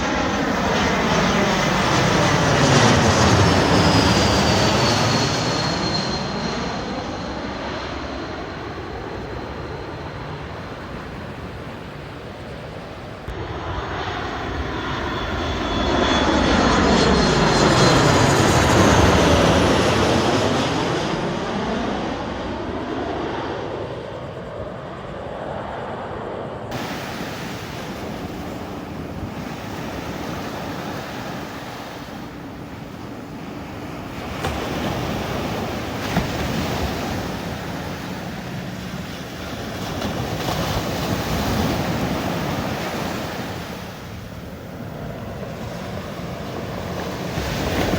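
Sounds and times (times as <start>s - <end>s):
aircraft passing low overhead: 0.0s - 47.9s.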